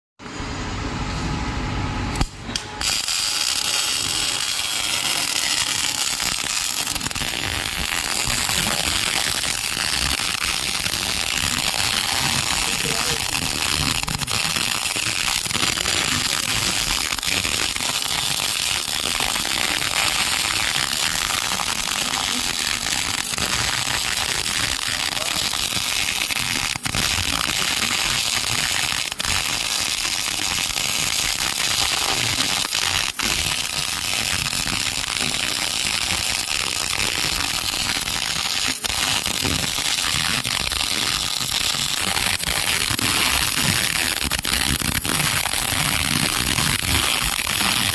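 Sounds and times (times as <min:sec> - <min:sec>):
welding arc crackling: 0:02.1 - 0:47.9.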